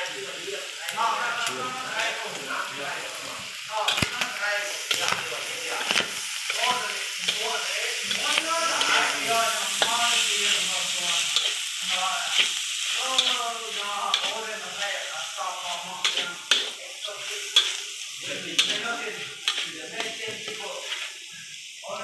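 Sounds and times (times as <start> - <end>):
meat sizzling in a wok: 0.0 - 22.0
metal spatula scraping wok: 3.0 - 21.4.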